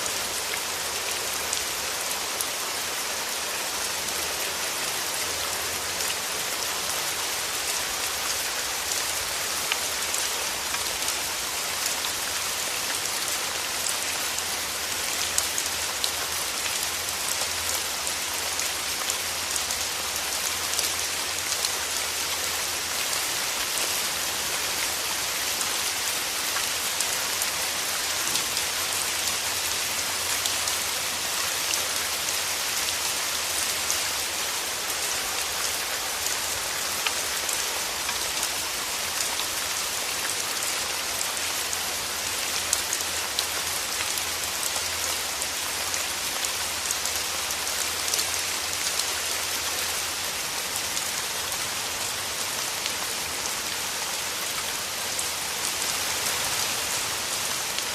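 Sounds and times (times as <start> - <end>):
rain falling through trees: 0.0 - 57.9.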